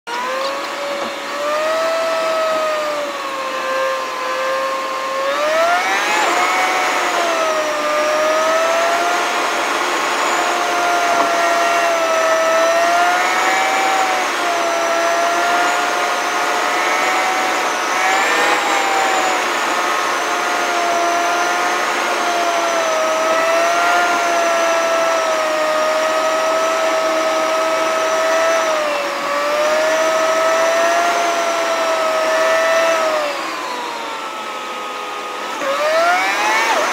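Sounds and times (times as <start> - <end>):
car high whine: 0.1 - 36.9.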